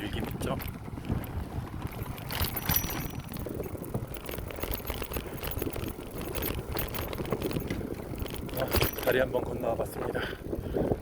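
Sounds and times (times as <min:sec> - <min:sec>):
bicycle rattling and clicking: 0:00.0 - 0:11.0
bicycle tyres rolling on path: 0:00.0 - 0:11.0.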